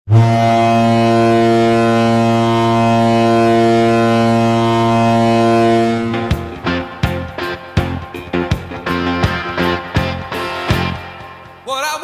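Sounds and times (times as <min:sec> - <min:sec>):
goal horn blast: 0:00.1 - 0:11.4.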